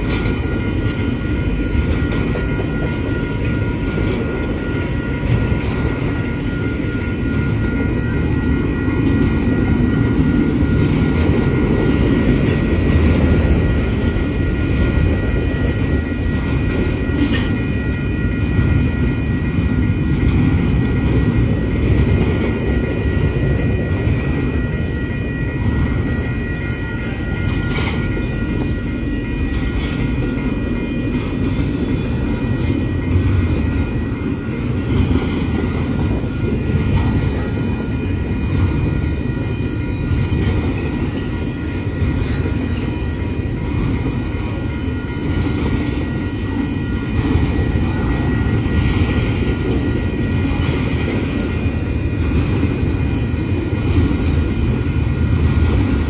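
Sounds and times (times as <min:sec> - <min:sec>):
crossing warning bell ringing: 0:00.0 - 0:56.0
steel wheels rumbling on rail: 0:00.0 - 0:56.0.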